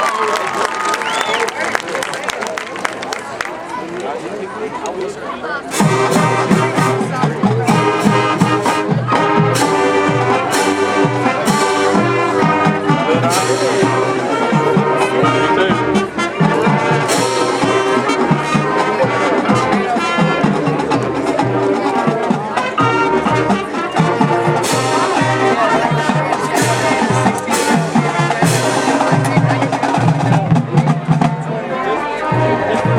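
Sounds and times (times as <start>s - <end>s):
brass section chords: 5.7s - 32.9s.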